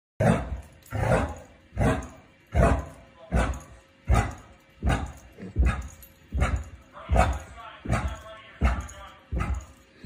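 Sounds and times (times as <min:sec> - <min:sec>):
dog barking: 0:00.2 - 0:09.7.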